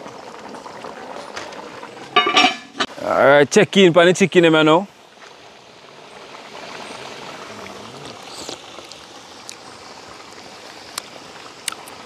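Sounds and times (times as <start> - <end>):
oil popping and crackling: 0.0 - 2.9, 5.1 - 12.0
chicken sizzling in oil: 0.0 - 12.0.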